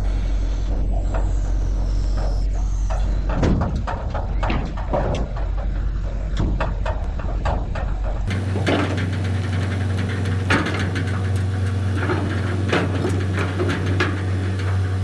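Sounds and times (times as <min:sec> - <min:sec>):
diesel engine running: 0:00.0 - 0:15.0
sharp knocks and clanks: 0:00.7 - 0:15.0.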